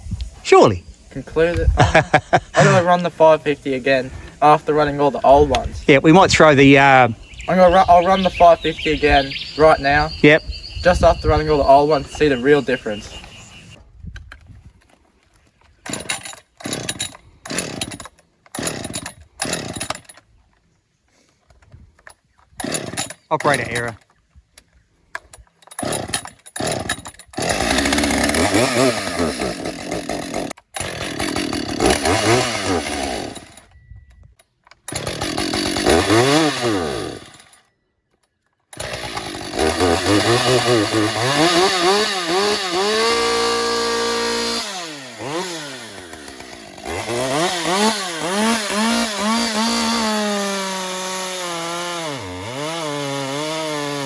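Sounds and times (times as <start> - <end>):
chainsaw starting and revving: 1.8 - 5.8, 6.6 - 13.8, 15.8 - 20.2, 22.6 - 24.0, 25.2 - 33.8, 34.8 - 37.7, 38.7 - 54.0.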